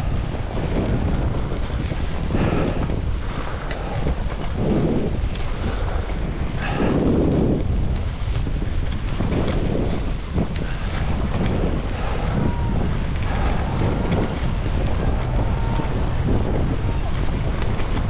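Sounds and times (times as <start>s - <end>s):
wind buffeting microphone: 0.0s - 18.0s
skis scraping on snow: 0.5s - 18.0s.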